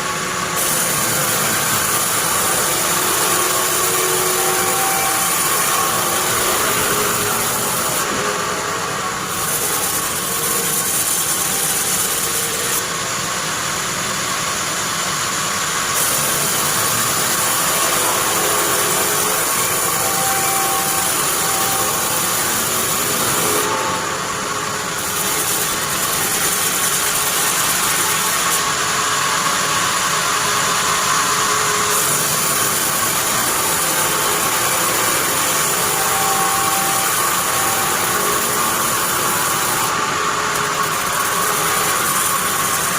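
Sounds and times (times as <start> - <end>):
bandsaw machine running: 0.0 - 42.9.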